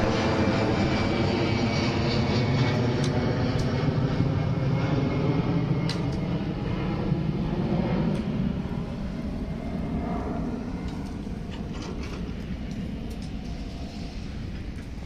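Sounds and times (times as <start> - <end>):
jet engine rumble: 0.0 - 15.0
thin high jet whine: 0.0 - 15.0.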